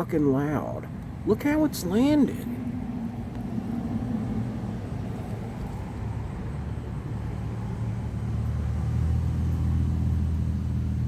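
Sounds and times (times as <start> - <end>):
low-flying aircraft engine drone: 0.8 - 11.0.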